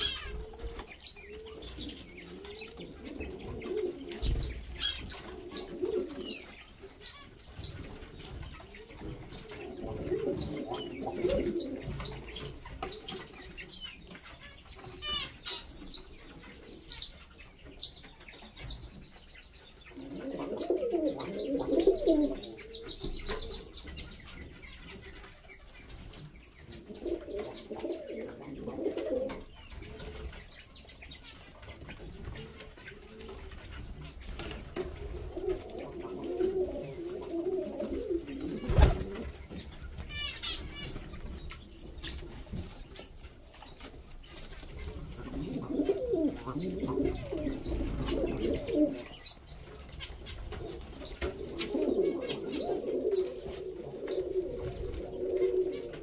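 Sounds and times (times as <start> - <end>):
pigeons cooing: 0.0 - 56.0
small birds chirping: 0.0 - 56.0.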